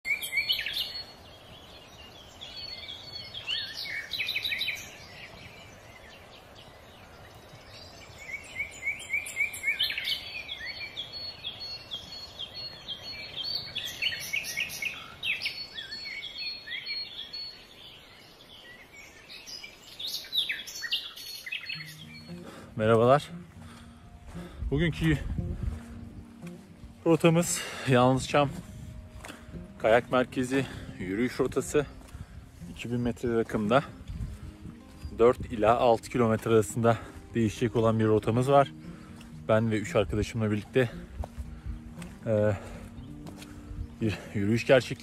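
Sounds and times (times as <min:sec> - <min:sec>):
songbirds singing and chirping: 0:00.0 - 0:45.0.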